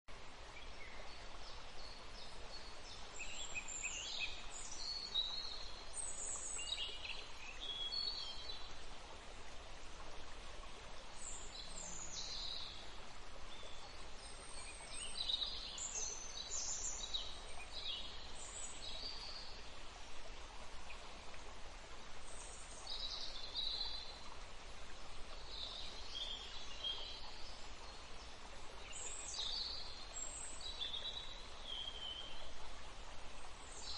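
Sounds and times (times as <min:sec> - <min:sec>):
stream rushing: 0:00.1 - 0:33.9.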